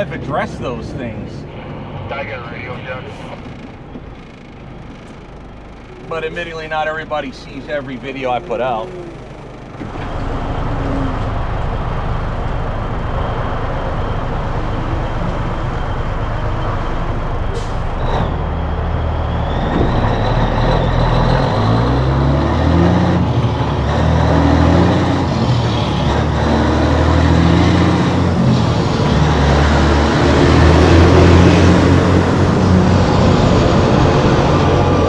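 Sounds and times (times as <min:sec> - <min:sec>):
diesel truck engine shifting gears: 0:00.0 - 0:35.0.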